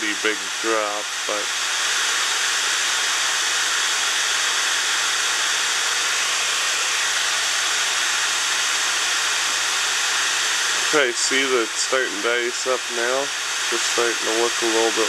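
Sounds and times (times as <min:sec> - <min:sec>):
blower fan rushing air: 0:00.0 - 0:15.0.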